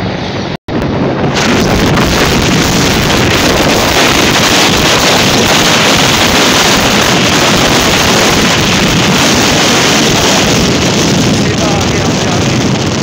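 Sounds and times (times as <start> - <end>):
road noise: 0.0 - 13.0
vehicle engine: 0.0 - 13.0
wind rushing over microphone: 0.0 - 13.0.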